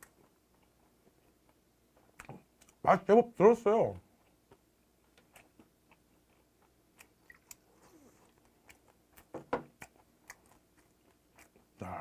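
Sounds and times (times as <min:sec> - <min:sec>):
chewing with crunches: 0:00.0 - 0:02.8, 0:04.0 - 0:12.0.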